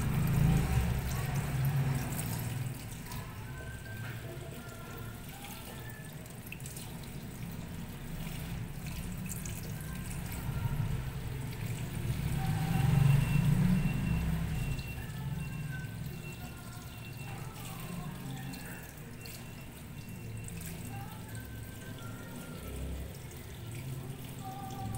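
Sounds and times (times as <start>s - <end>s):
kitchen tap running: 0.0s - 24.9s
water splashing into colander: 0.0s - 24.9s.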